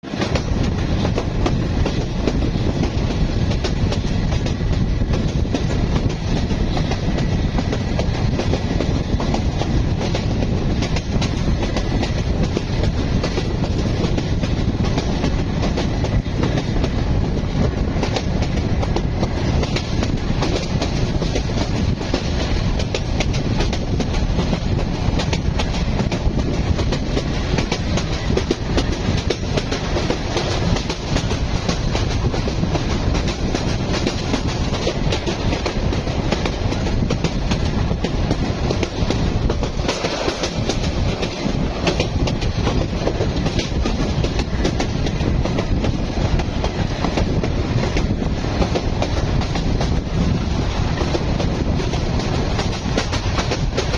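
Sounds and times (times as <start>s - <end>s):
train wheels clickety-clack: 0.0s - 53.9s.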